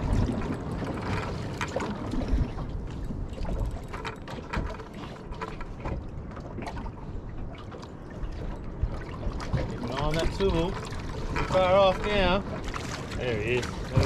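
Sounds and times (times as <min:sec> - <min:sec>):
water against boat hull: 0:00.0 - 0:14.0
wind: 0:00.0 - 0:14.0.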